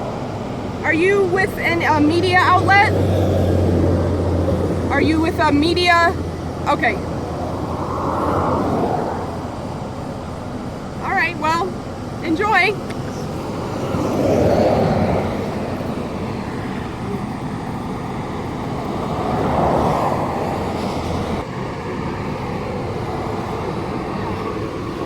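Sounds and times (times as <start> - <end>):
traffic drone: 0.0 - 25.0
vehicles passing: 0.0 - 25.0.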